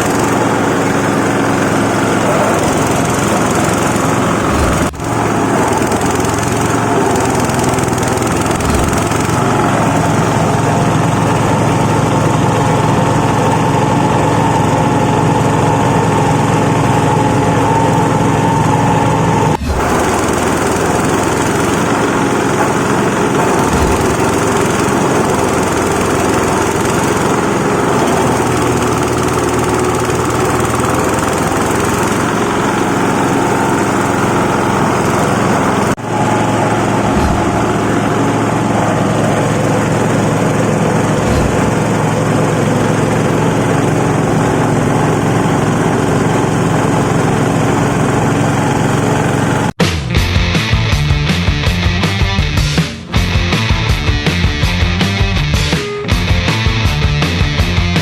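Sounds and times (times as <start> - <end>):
shredding machine motor drone: 0.0 - 58.0.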